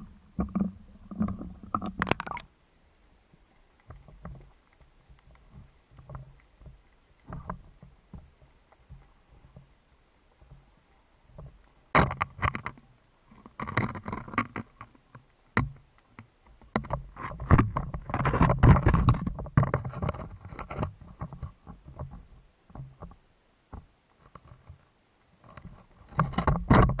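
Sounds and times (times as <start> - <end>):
underwater clicks and knocks: 0.0 - 2.5, 3.5 - 24.8, 25.4 - 27.0
rumble of moving water: 0.0 - 27.0.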